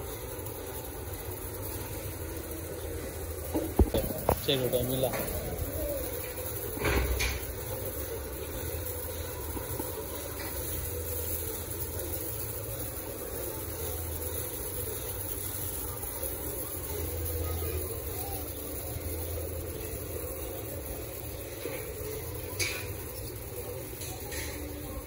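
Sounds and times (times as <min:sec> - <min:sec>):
constant hiss: 0:00.0 - 0:25.0
low mechanical hum: 0:00.0 - 0:25.0.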